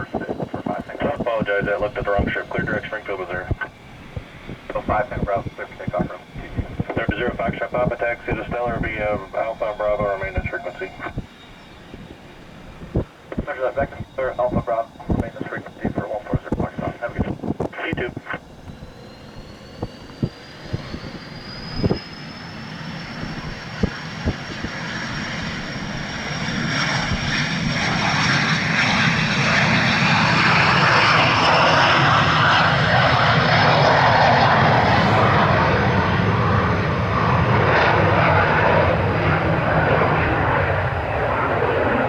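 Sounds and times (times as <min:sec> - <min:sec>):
jet engine whine: 0:00.0 - 0:42.0
jet roar: 0:00.0 - 0:42.0.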